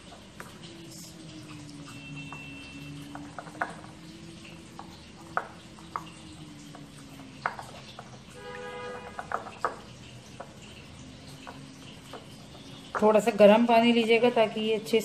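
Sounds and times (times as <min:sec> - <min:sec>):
spoon stirring water: 0:00.0 - 0:15.0.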